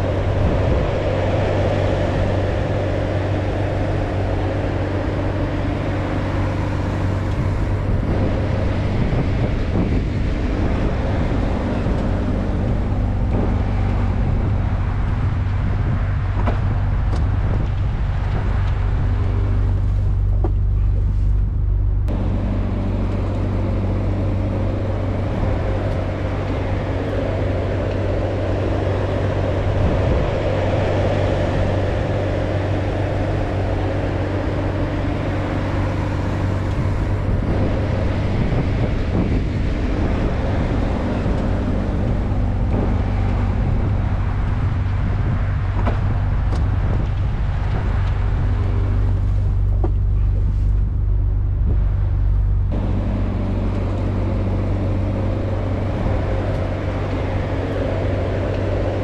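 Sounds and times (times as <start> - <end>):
car engine running: 0.0 - 59.0
tyre and road noise: 0.0 - 59.0.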